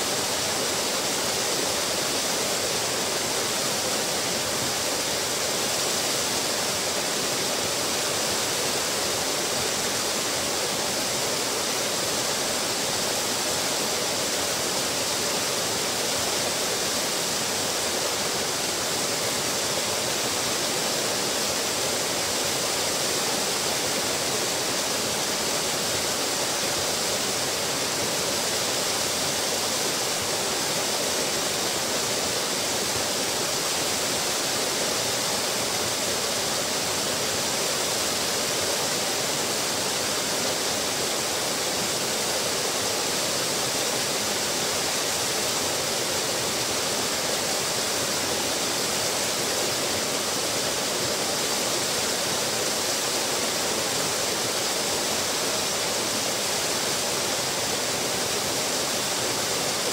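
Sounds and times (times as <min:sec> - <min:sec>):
waterfall rushing into pool: 0:00.0 - 0:59.9.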